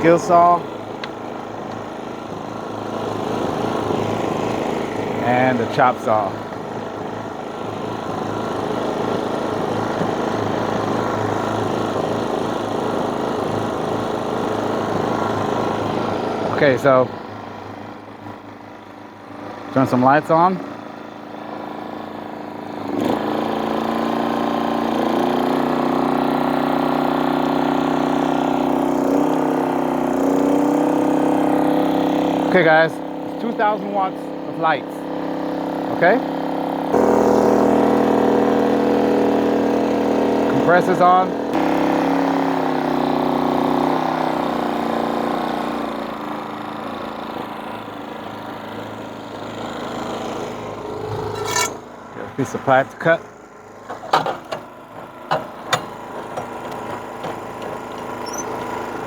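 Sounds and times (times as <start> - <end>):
air compressor running: 0.0 - 59.0
generator engine running: 0.0 - 59.0.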